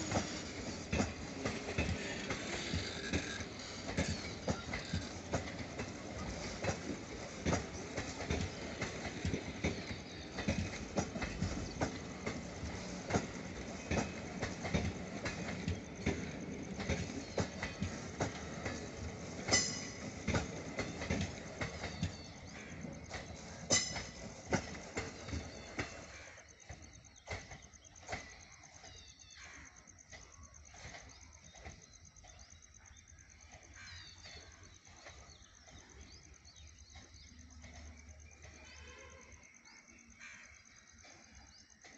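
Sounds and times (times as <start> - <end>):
train clattering over rail joints: 0.0 - 41.9.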